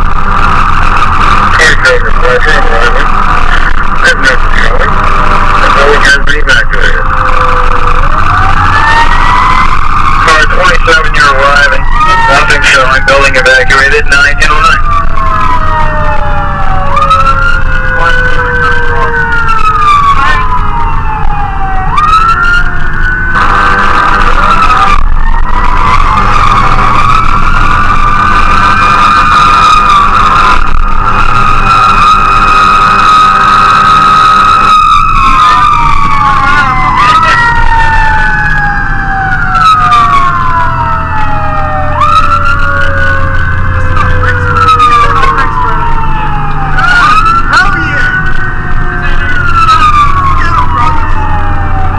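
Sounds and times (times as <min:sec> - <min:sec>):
engine and road rumble: 0:00.0 - 0:51.9
fire engine siren wailing: 0:00.0 - 0:51.9
lower siren tone winding down: 0:00.0 - 0:51.9.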